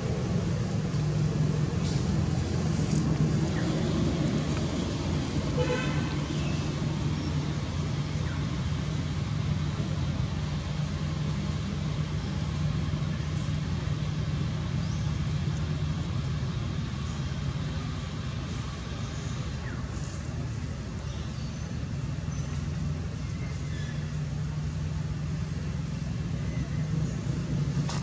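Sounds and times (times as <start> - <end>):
road traffic noise: 0.0 - 28.0
vehicle engine humming: 0.0 - 28.0.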